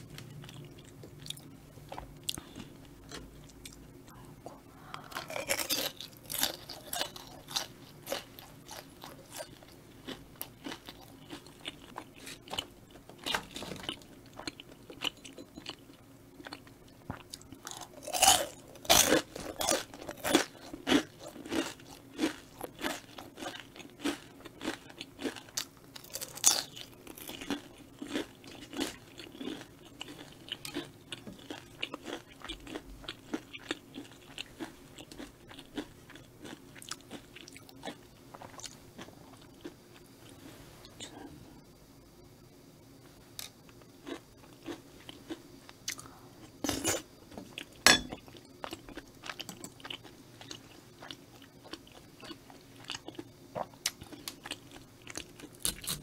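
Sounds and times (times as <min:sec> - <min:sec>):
crunching and chewing crispy snacks: 0:00.0 - 0:41.3, 0:43.4 - 0:56.0.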